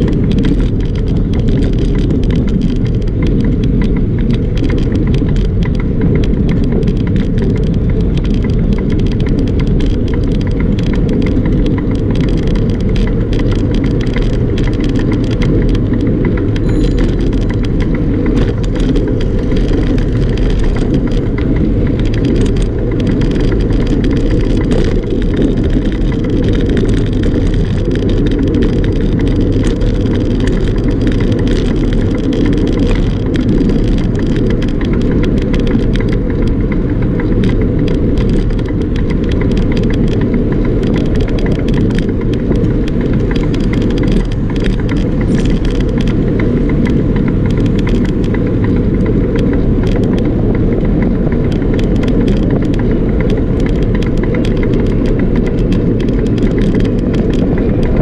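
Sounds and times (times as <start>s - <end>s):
faint rattling clicks: 0.0s - 58.0s
wind rumbling on microphone: 0.0s - 58.0s.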